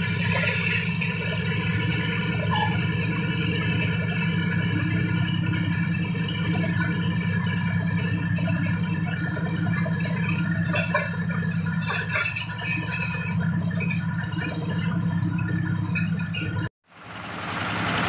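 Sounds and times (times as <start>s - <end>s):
clattering belts and steel frame: 0.0s - 16.7s
small engine running: 0.0s - 18.0s.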